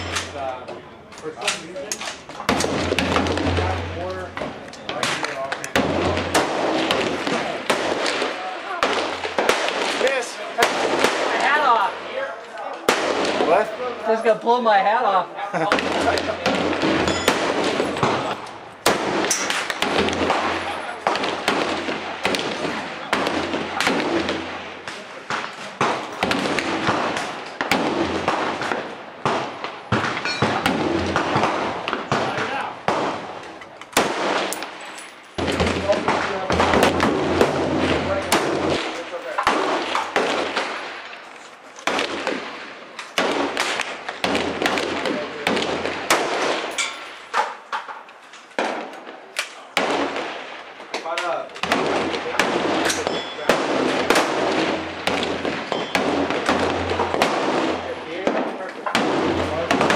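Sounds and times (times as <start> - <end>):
gunshots echoing: 0.0 - 0.7, 1.4 - 14.1, 15.7 - 47.7, 48.5 - 59.9.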